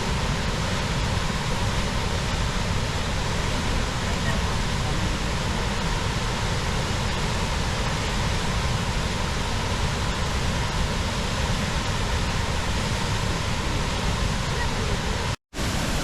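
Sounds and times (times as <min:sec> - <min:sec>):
water roaring through rock gorge: 0:00.0 - 0:16.0.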